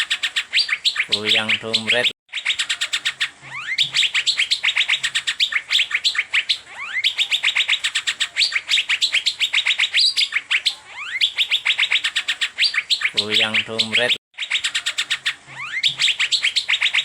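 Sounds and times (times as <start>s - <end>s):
bird chirping rapidly: 0.0s - 17.0s.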